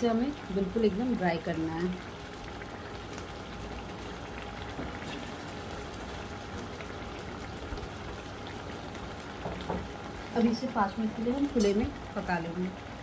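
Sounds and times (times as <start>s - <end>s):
curry bubbling and sizzling: 0.0s - 13.0s.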